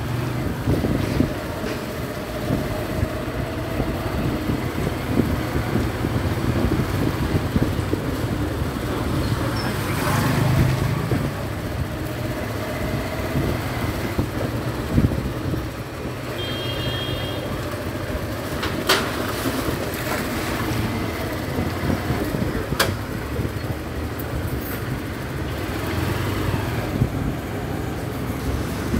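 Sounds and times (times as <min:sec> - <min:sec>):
wind noise on microphone: 0:00.0 - 0:16.5, 0:19.3 - 0:28.9.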